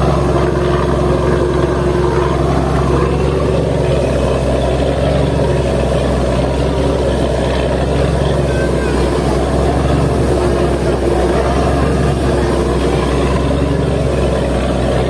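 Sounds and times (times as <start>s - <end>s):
ferry engine running: 0.0s - 15.0s
water rushing along hull: 0.0s - 15.0s.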